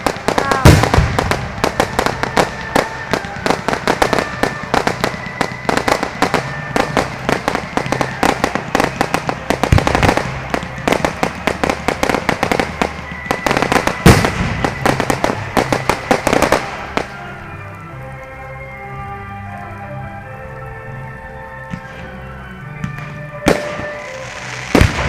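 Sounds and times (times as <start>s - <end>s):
fireworks bangs: 0.0s - 17.8s, 21.7s - 25.0s
fireworks crackling: 0.0s - 25.0s.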